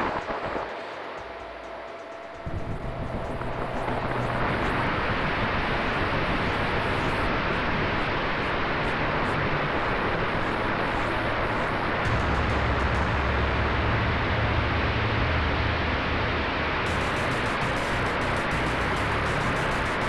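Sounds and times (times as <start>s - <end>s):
electric ducted fans rushing: 0.0s - 20.0s.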